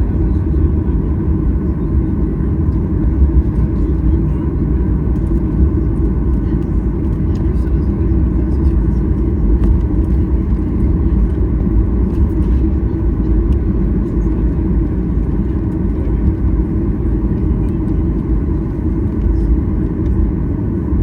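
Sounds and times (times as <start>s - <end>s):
jet engines humming: 0.0s - 21.0s.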